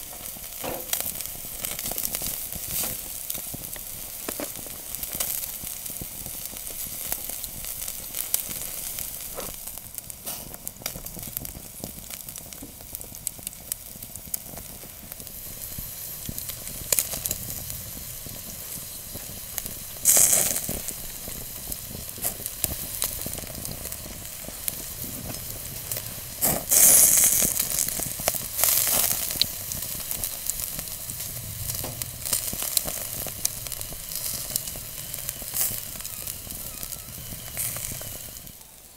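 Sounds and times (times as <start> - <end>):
meat sizzling on a grill: 0.0 - 38.9
wood fire crackling: 0.0 - 38.9.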